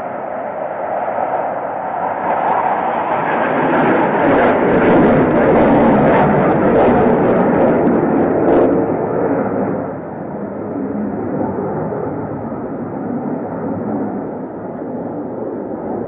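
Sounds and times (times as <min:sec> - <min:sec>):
aircraft engine rushing: 0:00.0 - 0:16.0.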